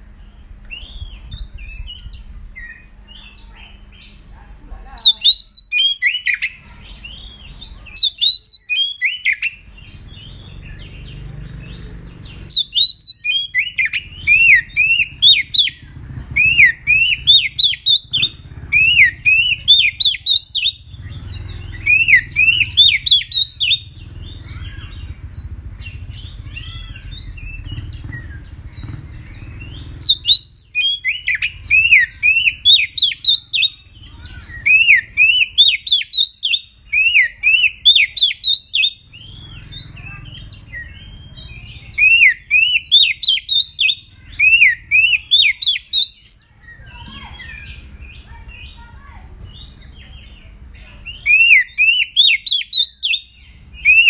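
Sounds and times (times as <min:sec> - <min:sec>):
bird singing whistled notes: 0:00.0 - 0:04.2, 0:05.0 - 0:54.0.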